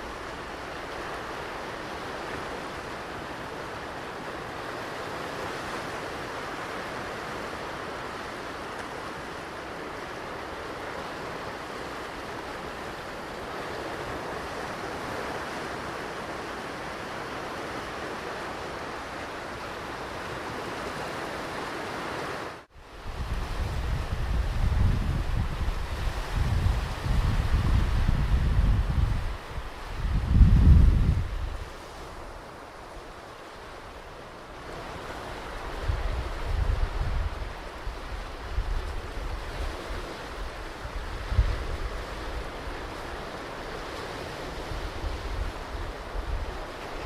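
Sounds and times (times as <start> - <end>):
waves breaking on beach: 0.0 - 47.0.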